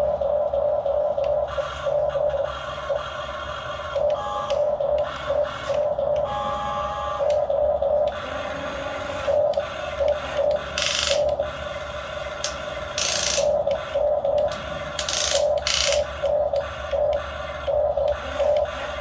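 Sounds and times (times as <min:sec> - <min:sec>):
small electric motors whining: 0:01.2 - 0:19.0.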